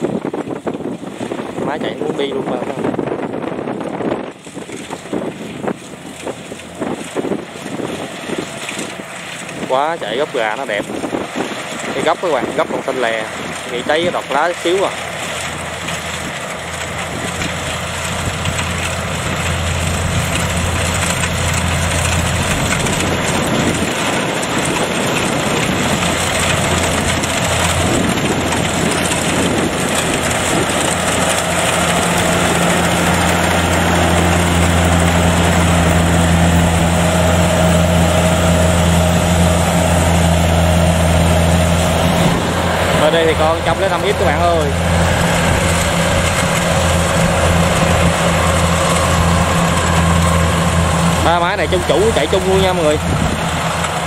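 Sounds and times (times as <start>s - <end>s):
diesel engine drone: 0.0s - 54.0s
harvester cutting clatter: 0.0s - 54.0s.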